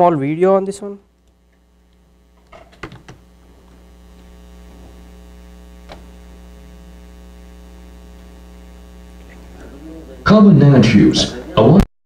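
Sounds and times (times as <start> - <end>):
electrical mains hum: 0.0 - 11.9.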